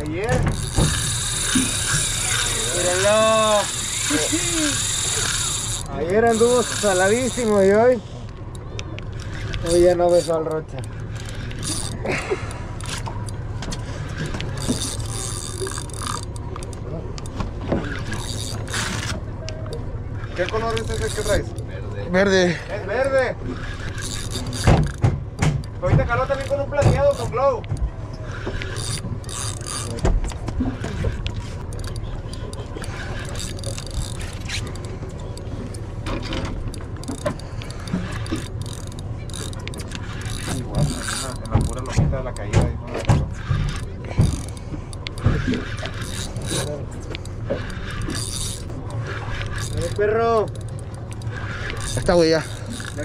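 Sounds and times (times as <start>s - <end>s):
fishing reel clicking: 0.0s - 25.0s, 25.6s - 42.6s, 43.3s - 53.0s
boat engine humming: 0.0s - 53.0s.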